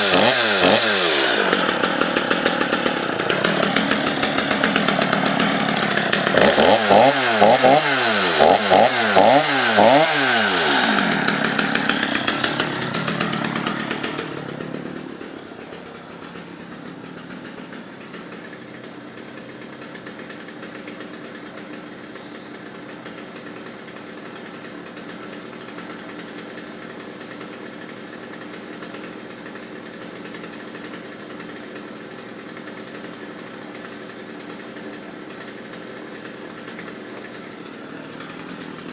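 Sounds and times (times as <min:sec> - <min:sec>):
chainsaw engine revving and idling: 0:00.0 - 0:38.9.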